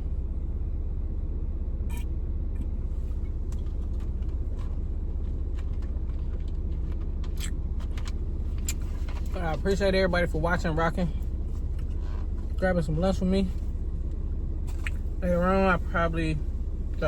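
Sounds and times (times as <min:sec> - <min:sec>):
car engine rumble inside cabin: 0:00.0 - 0:17.0.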